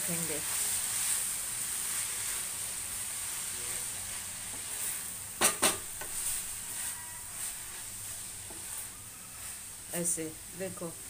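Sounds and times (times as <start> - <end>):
leaves and onions sizzling in pan: 0.0 - 11.0
wooden spoon stirring: 0.4 - 10.2.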